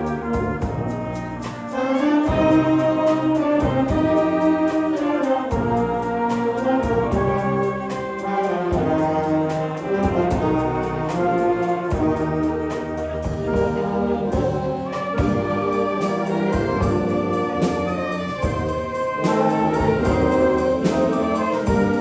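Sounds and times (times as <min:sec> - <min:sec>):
wind band playing live: 0:00.0 - 0:22.0.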